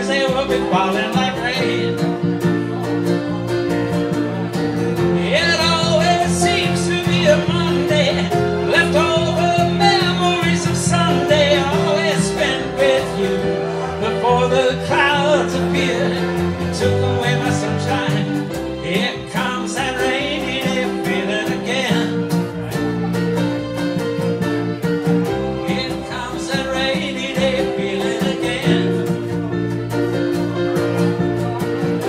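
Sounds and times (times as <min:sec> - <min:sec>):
acoustic guitar and keyboard country song: 0:00.0 - 0:32.0.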